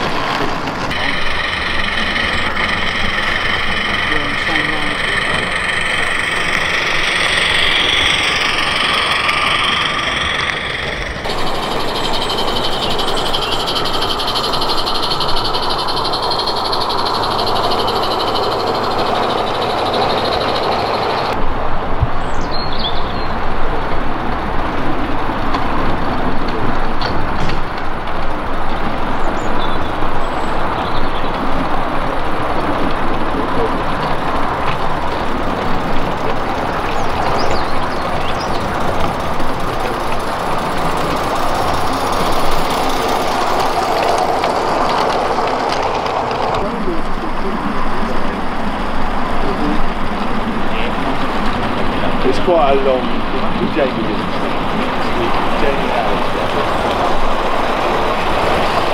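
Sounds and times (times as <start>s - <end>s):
steam hissing: 0.0s - 21.8s, 23.4s - 58.9s.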